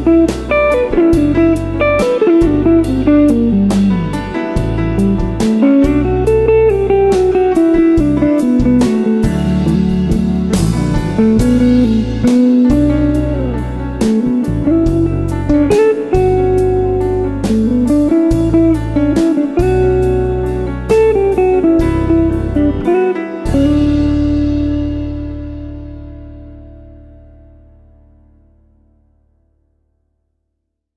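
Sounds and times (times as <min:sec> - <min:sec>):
smooth jazz instrumental: 0:00.0 - 0:28.8
guitar melody: 0:00.0 - 0:29.2.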